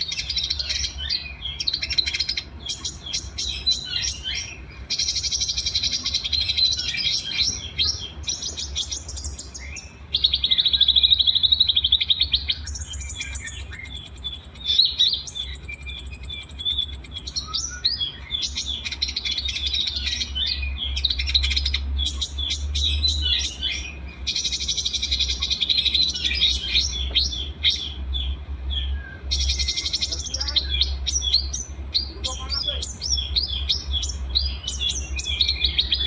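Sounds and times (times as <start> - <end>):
songbirds singing: 0.0 - 36.0
steady low hum: 0.0 - 36.0.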